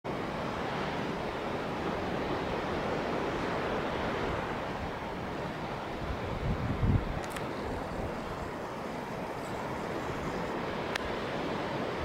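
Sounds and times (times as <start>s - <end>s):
surf breaking on a beach: 0.1s - 12.0s.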